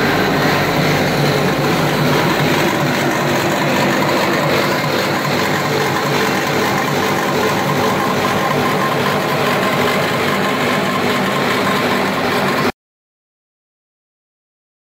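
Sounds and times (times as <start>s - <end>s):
machine line mechanical din: 0.0s - 12.7s.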